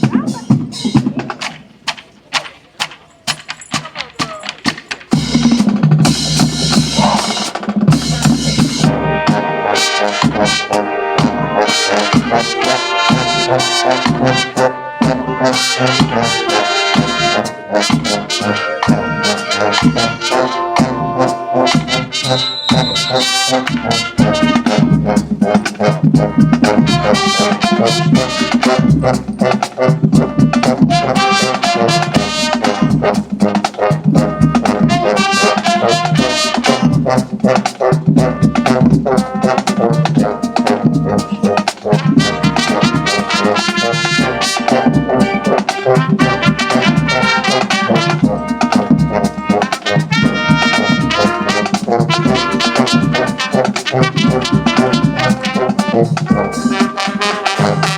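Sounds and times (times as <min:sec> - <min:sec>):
drums: 0:00.0 - 0:57.9
marching band brass chords: 0:00.0 - 0:57.9.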